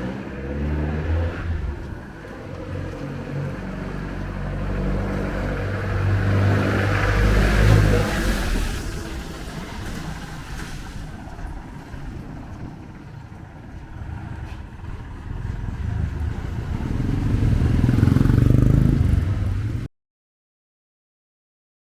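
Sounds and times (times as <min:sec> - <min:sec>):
vehicle engine rumble: 0:00.0 - 0:19.9.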